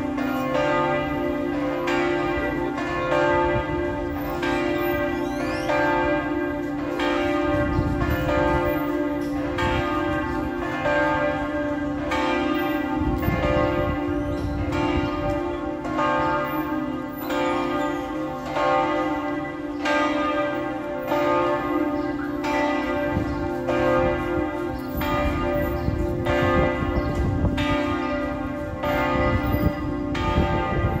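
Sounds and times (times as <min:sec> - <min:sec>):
church bells ringing: 0:00.0 - 0:31.0.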